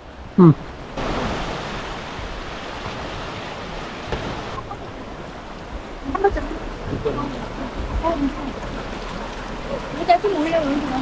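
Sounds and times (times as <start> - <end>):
fast-flowing water rushing: 0.0 - 11.0.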